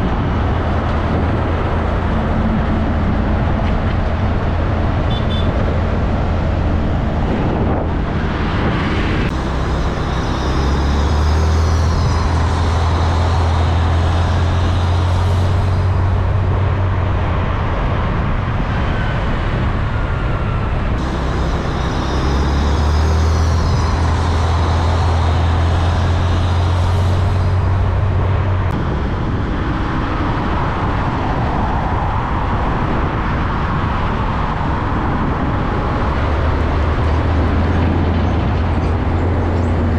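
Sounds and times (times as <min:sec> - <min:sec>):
diesel trucks passing: 0:00.0 - 0:39.9
loud low drone: 0:00.0 - 0:39.9.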